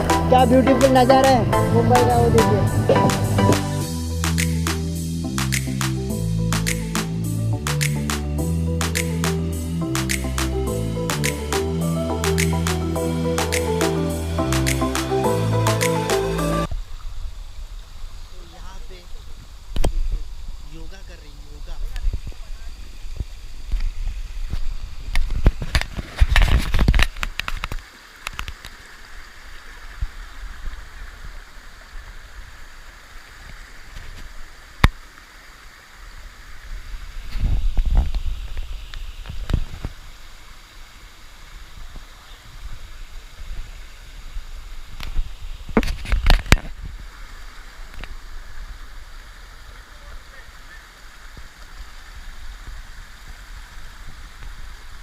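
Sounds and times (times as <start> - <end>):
flowing stream: 0.0 - 55.0.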